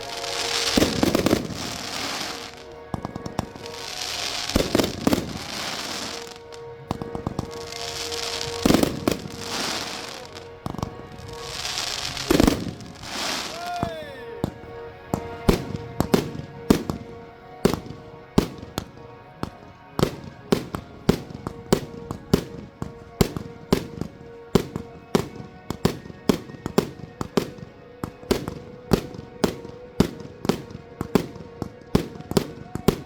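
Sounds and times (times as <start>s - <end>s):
music playing: 0.0s - 33.0s
firework bangs: 0.1s - 27.7s.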